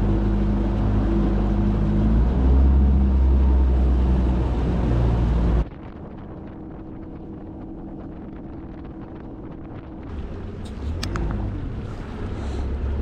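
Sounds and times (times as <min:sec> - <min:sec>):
boat humming over water: 0:00.0 - 0:13.0
outboard motor running: 0:00.0 - 0:13.0
wind buffeting microphone: 0:00.0 - 0:13.0.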